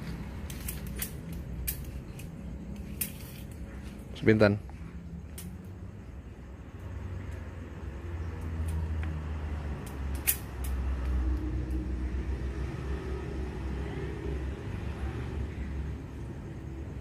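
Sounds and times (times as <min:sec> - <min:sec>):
motor vehicle engine rumbling: 0:00.0 - 0:17.0.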